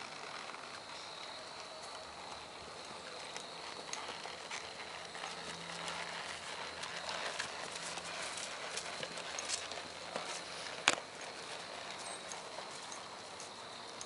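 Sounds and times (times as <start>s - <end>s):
horse hoofbeats on grass: 0.0s - 14.0s.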